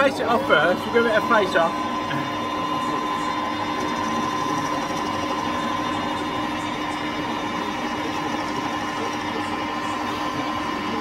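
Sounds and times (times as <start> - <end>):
metal lathe humming and whining: 0.0 - 11.0.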